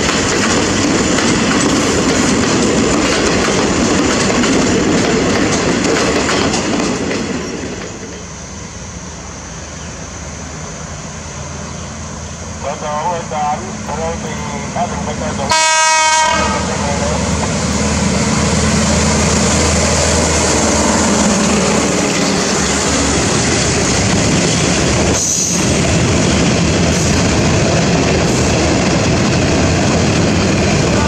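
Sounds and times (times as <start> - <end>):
diesel locomotive engine running: 0.0 - 31.0
train wheels rolling on rails: 0.0 - 31.0.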